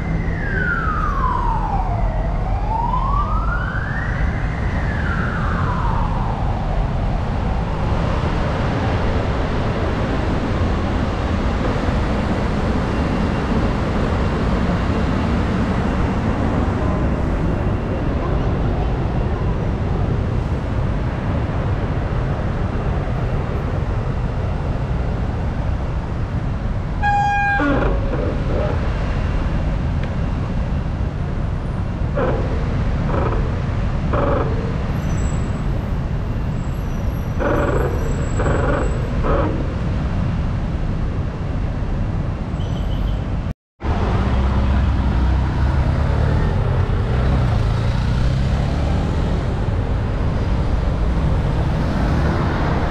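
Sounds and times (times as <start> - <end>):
road traffic noise: 0.0 - 52.9
wind rumble on microphone: 0.0 - 52.9.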